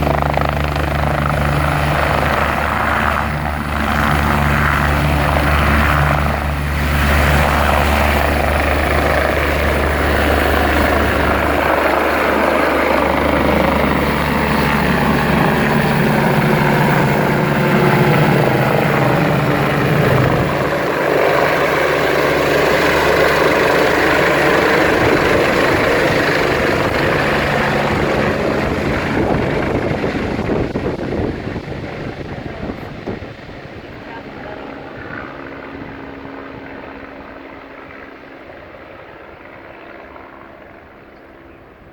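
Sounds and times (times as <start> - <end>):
helicopter rotor and engine drone: 0.0 - 41.9.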